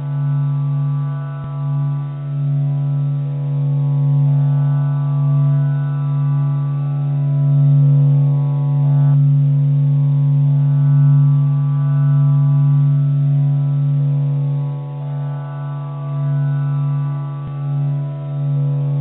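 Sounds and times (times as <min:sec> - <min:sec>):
low humming drone: 0:00.0 - 0:19.0.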